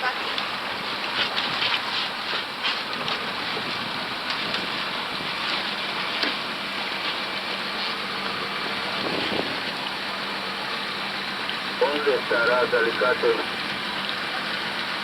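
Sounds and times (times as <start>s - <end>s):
boat motor running: 0.0s - 15.0s
water noise: 0.0s - 15.0s
wind: 0.0s - 15.0s.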